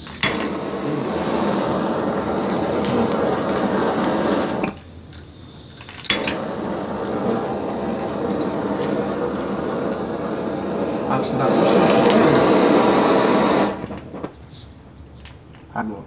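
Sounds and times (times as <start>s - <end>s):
torch ignition click: 0.0s - 14.4s
blow torch hissing: 0.0s - 14.8s.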